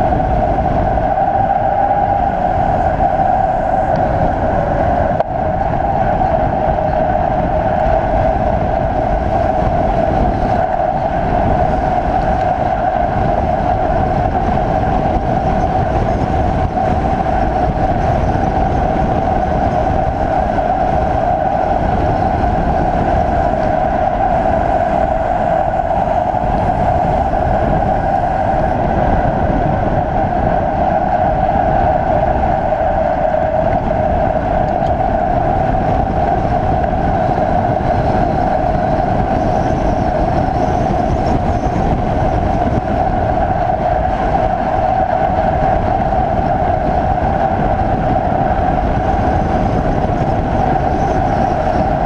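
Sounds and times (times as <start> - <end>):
mid-pitched hum: 0.0 - 52.0
wind and road noise: 0.0 - 52.0.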